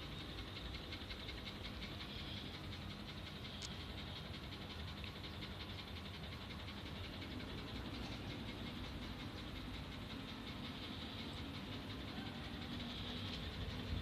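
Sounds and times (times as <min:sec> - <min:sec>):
machinery humming with rattle: 0:00.0 - 0:14.0.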